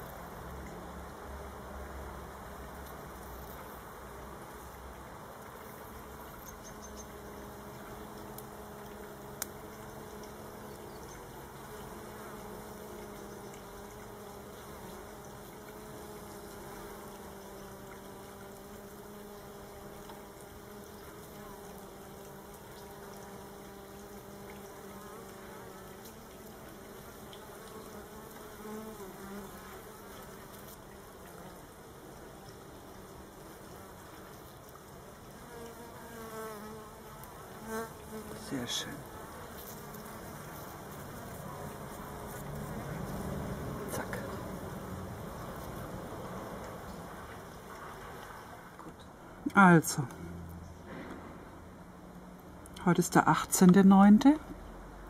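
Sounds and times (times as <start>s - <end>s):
honeybees buzzing: 0.0s - 50.8s.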